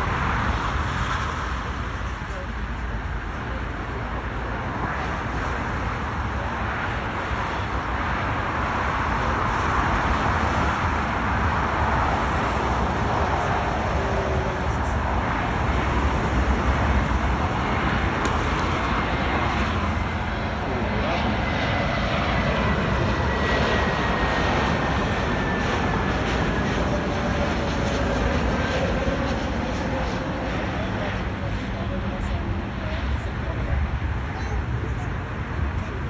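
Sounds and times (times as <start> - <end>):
jet engine roar: 0.0 - 36.0.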